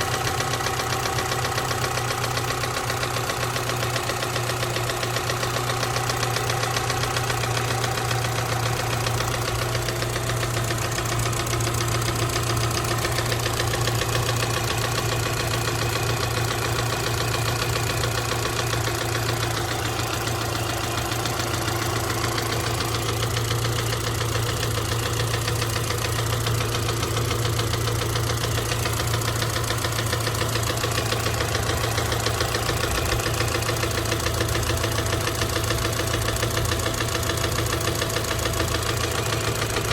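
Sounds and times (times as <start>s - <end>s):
engine idling with regular knocking: 0.0s - 39.9s.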